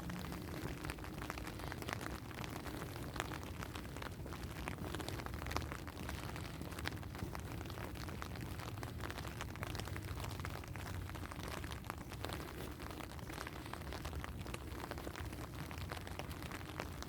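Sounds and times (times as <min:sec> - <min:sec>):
rain drops ticking: 0:00.0 - 0:17.0
steady low rumble: 0:00.0 - 0:17.0.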